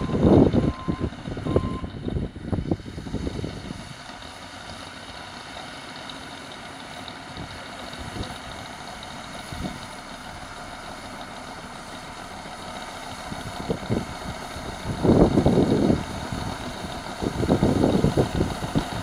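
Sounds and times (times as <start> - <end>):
bulldozer pushing gravel: 0.0 - 19.0
distant bulldozer diesel engine: 0.0 - 19.0.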